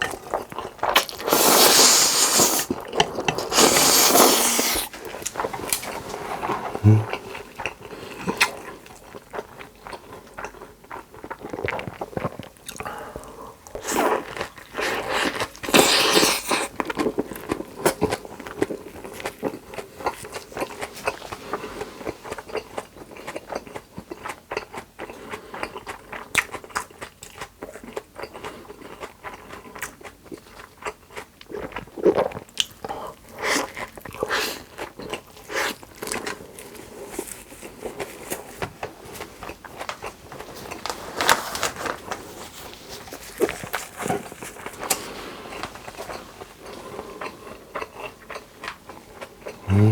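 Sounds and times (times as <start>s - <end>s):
crunching and chewing: 0.0s - 49.9s.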